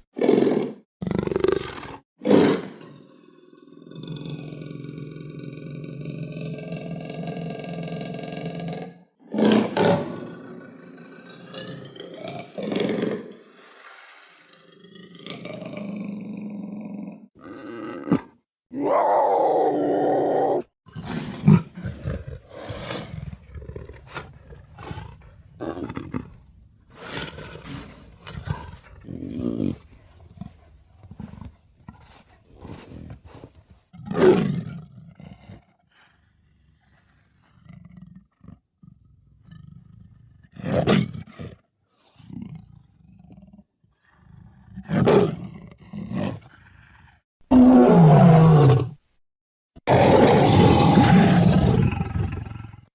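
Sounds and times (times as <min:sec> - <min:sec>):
big cat roaring: 0:00.0 - 0:13.5, 0:14.4 - 0:41.6, 0:42.2 - 0:49.0, 0:49.8 - 0:52.9
big cat growling and snarling: 0:00.0 - 0:49.0, 0:49.8 - 0:52.9.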